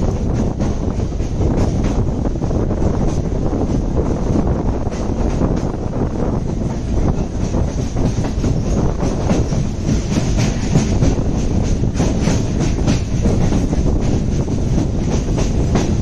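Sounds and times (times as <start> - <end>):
train wheels clattering over rails: 0.0 - 16.0.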